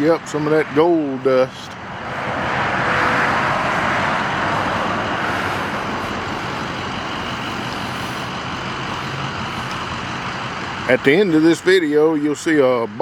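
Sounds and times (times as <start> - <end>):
vacuum truck rushing noise: 0.0 - 11.7
low engine hum: 0.0 - 13.0.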